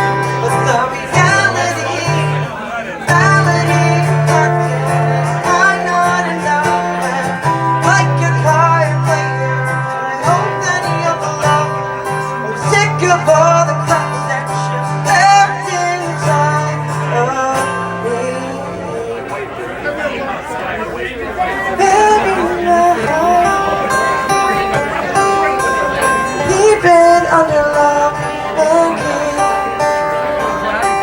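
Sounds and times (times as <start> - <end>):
person singing: 0.0 - 19.5, 21.4 - 31.0
guitar accompaniment: 0.0 - 31.0.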